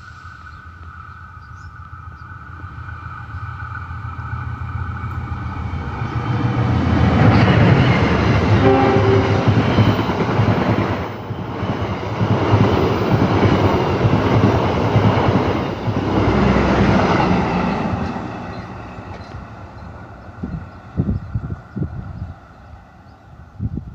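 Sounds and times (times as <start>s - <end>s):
train cars rattling: 0.0s - 23.5s
diesel locomotive rumble: 0.0s - 23.9s.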